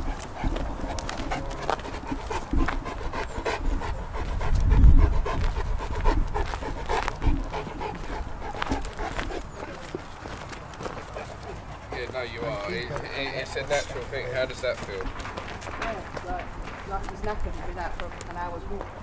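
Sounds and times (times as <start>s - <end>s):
footsteps on gravel: 0.0s - 4.6s, 5.3s - 19.0s
dog panting heavily: 0.0s - 17.4s.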